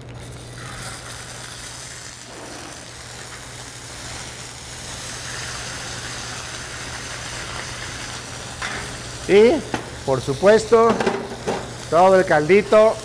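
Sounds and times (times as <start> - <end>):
fish sizzling in frying pan: 0.0 - 13.0.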